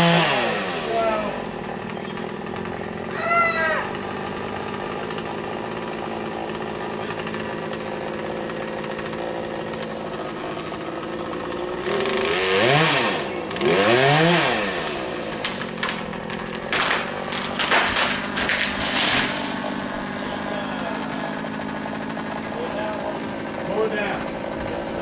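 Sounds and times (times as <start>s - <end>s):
chainsaw idling and revving: 0.0s - 25.0s.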